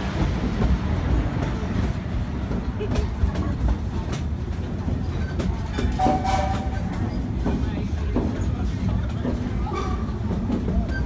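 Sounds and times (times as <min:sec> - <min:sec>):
train rumbling: 0:00.0 - 0:11.0
wheels clacking over rails: 0:00.0 - 0:11.0.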